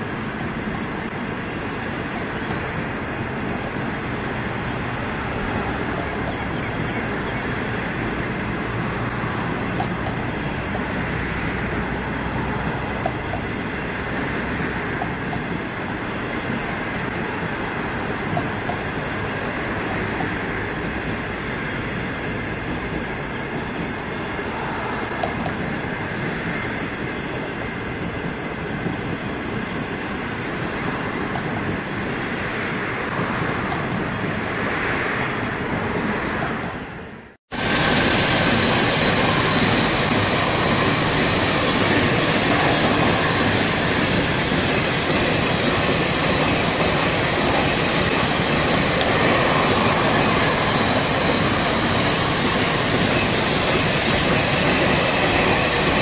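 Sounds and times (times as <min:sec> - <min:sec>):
light rail clicks: 0:00.0 - 0:29.6, 0:30.5 - 0:37.0, 0:38.6 - 0:56.0
train wheels rumbling on rail: 0:00.0 - 0:56.0.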